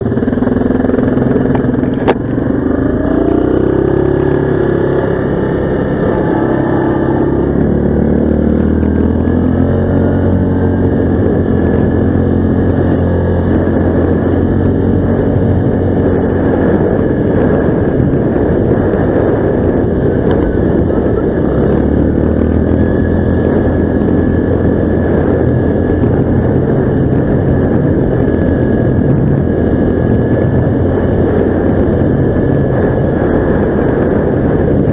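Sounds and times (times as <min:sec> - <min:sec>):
steady rushing noise: 0:00.0 - 0:34.9
vehicle engine running: 0:00.0 - 0:34.9.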